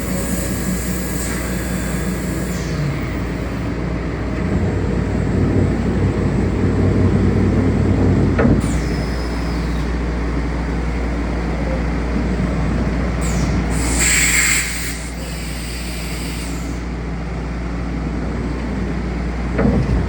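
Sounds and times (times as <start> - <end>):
machinery running: 0.0 - 16.3.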